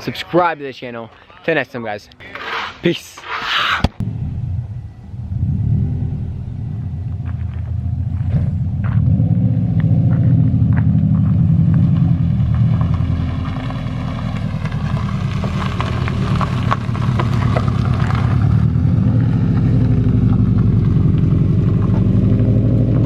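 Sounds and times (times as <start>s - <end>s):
car engine droning: 4.0s - 23.0s.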